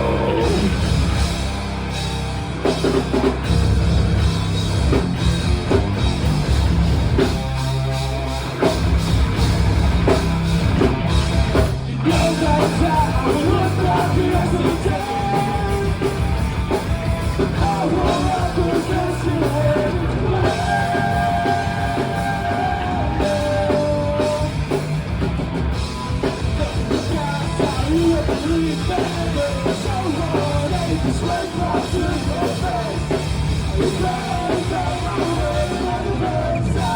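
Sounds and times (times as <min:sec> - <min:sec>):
live rock band: 0:00.0 - 0:36.9.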